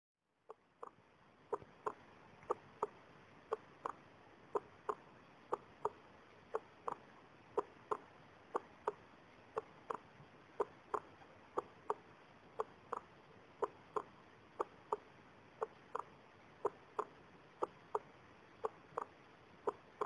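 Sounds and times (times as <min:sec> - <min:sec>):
faint hiss: 0:00.2 - 0:20.0.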